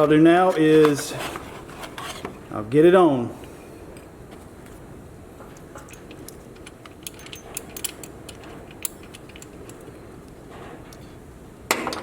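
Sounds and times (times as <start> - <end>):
steady low background noise: 0.0 - 12.0.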